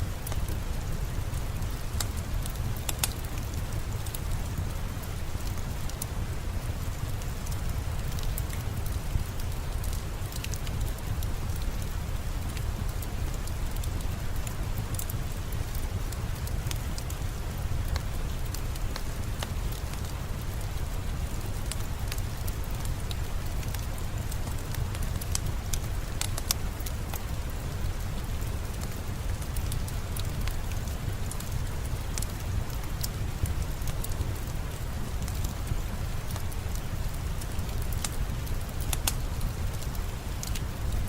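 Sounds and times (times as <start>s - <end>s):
steady rainfall: 0.0s - 41.0s
wood fire crackling: 0.0s - 41.0s.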